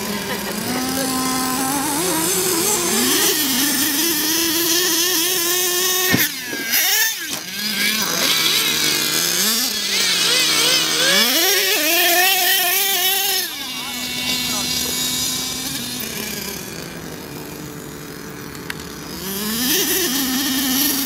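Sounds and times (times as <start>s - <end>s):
toy truck motor revving: 0.0s - 21.0s.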